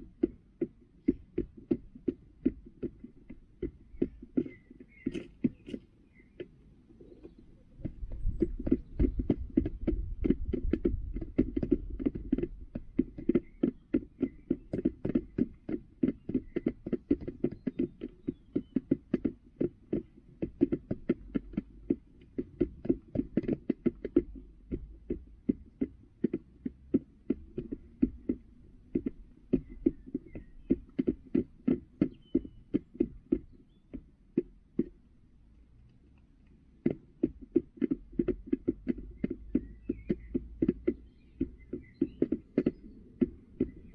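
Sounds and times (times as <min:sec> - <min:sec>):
hen pecking at feeder: 0:00.0 - 0:43.9.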